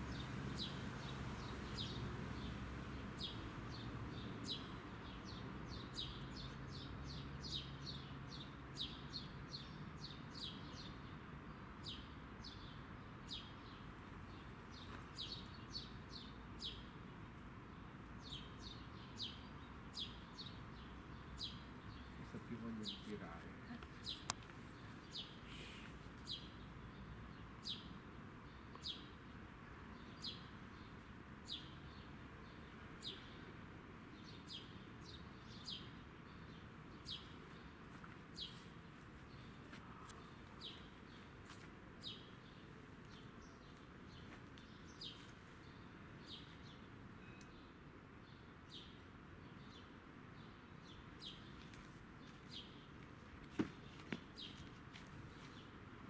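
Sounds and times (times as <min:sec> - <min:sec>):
faint outdoor background noise: 0:00.0 - 0:56.0
bird chirping: 0:00.1 - 0:17.0, 0:17.7 - 0:53.0.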